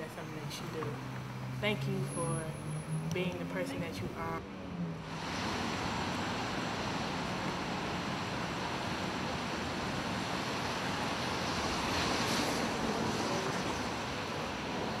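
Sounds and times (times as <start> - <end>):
traffic roar: 0.0 - 15.0
wind: 0.0 - 15.0.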